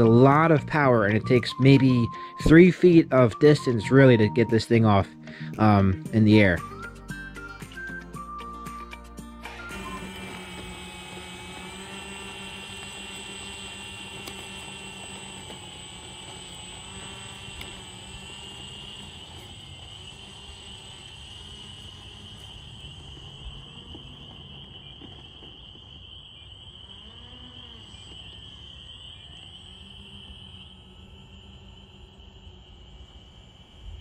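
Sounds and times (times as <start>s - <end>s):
model plane motors whining: 0.0s - 34.0s.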